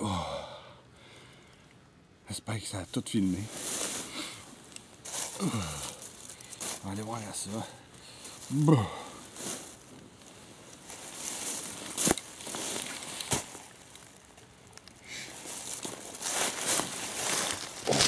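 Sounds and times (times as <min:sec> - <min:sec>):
dry leaves shifting: 0:03.1 - 0:18.0
clothing and gear rustling: 0:03.3 - 0:18.0.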